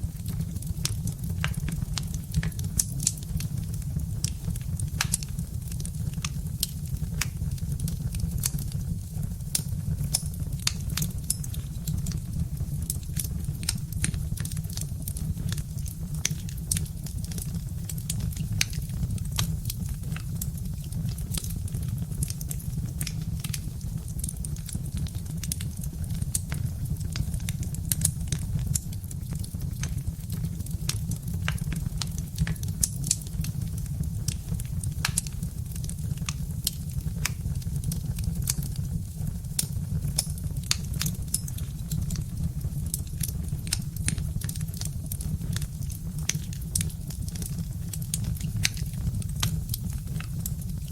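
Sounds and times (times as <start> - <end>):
fire pops and snaps: 0.0 - 50.9
log fire crackling: 0.0 - 50.9.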